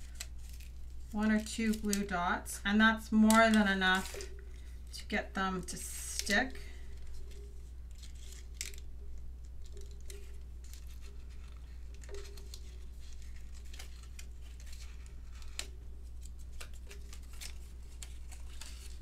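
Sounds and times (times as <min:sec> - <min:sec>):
paper rustling: 0:00.0 - 0:02.1, 0:03.1 - 0:05.0, 0:05.6 - 0:19.0
steady low hum: 0:00.0 - 0:19.0.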